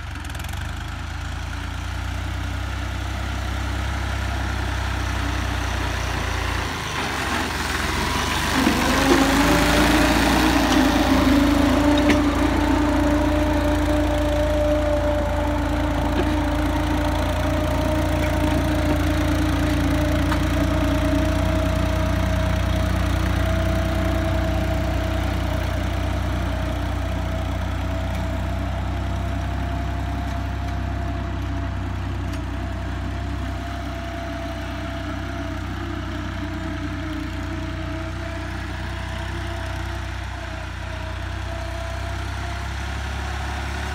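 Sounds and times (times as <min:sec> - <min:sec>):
tractor engine droning: 0:00.0 - 0:43.9.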